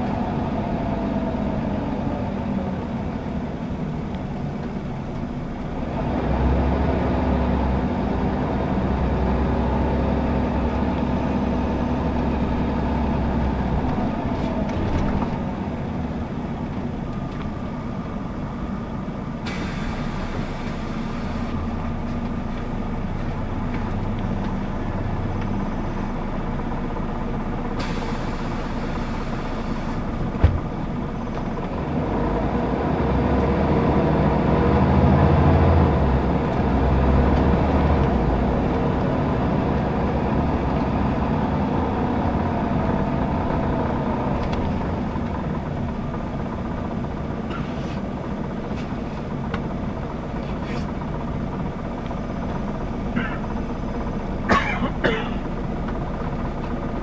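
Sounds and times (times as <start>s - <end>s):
bus diesel engine running: 0.0s - 57.0s
road and tyre noise: 0.0s - 57.0s.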